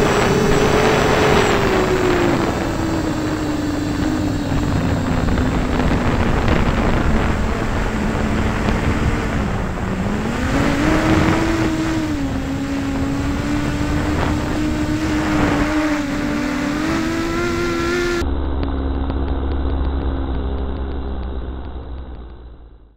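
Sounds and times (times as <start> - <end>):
wind noise: 0.0 - 18.9
drone motors whining: 0.0 - 22.9
steady low hum: 0.0 - 22.9.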